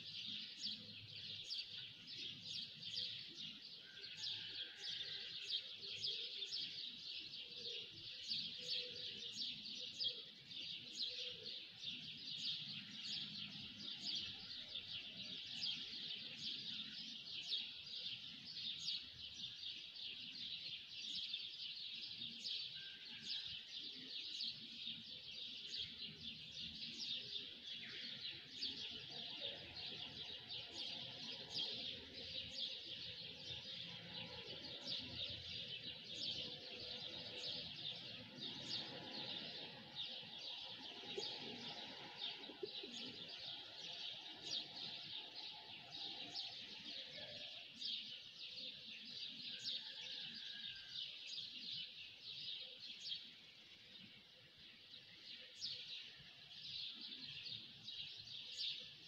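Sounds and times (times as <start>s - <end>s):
songbirds chirping chorus: 0.0s - 59.0s.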